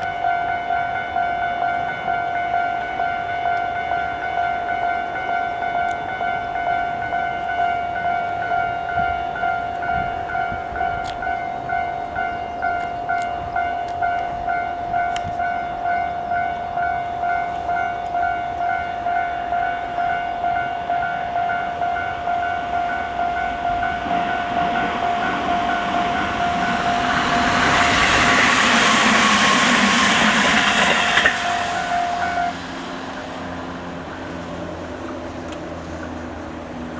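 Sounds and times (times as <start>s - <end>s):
level crossing warning bell ringing: 0.0s - 35.3s
electric train passing: 0.0s - 36.9s.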